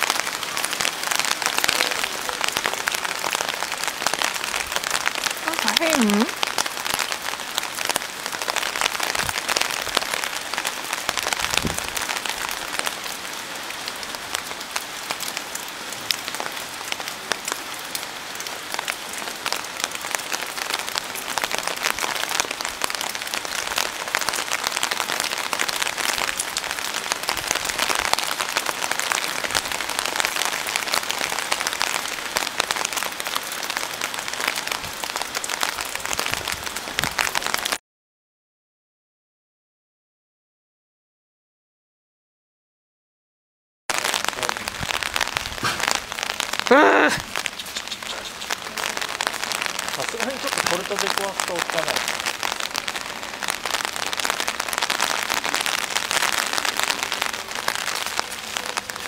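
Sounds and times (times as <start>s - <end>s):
steady rain falling: 0.0s - 37.8s, 43.9s - 59.0s.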